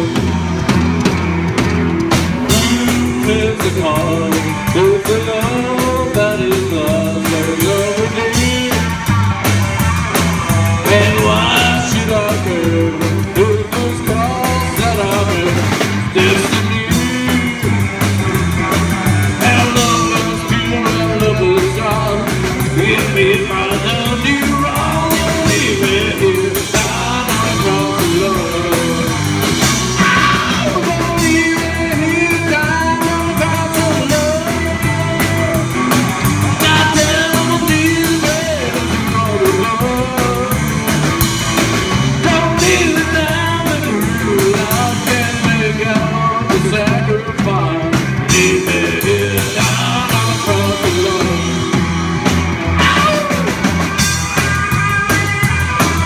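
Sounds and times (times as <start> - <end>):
rock and roll band playing: 0.0 - 56.0.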